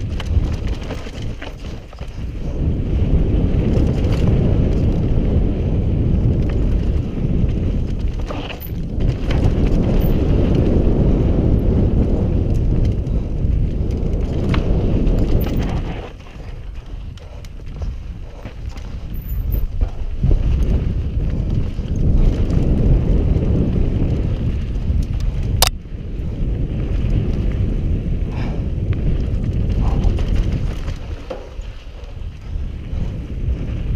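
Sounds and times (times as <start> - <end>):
bike clicks and rattles: 0.0 - 33.9
tyres rumbling over dirt trail: 0.0 - 33.9
wind buffeting microphone: 0.0 - 33.9.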